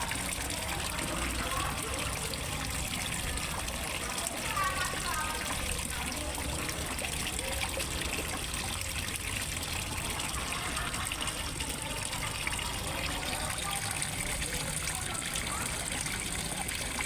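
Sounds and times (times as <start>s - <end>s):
waterfall splashing into pond: 0.0s - 17.0s.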